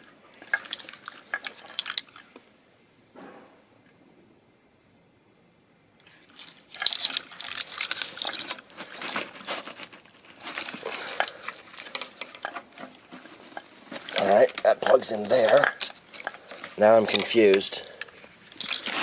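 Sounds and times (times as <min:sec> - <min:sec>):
plastic connectors rustling and clicking: 0:00.0 - 0:02.5, 0:06.0 - 0:19.0.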